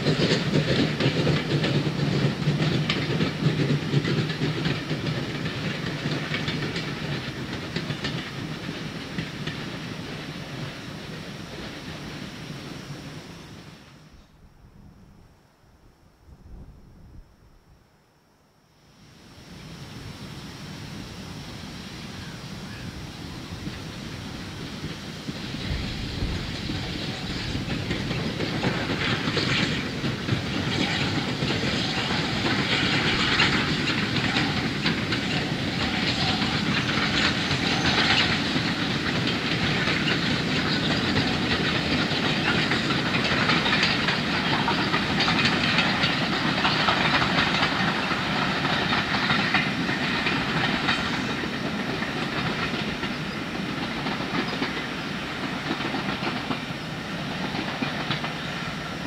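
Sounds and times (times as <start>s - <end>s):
train wheels on rails: 0.0s - 14.4s, 18.9s - 59.0s
steam locomotive exhaust hiss: 0.0s - 15.4s, 18.8s - 59.0s.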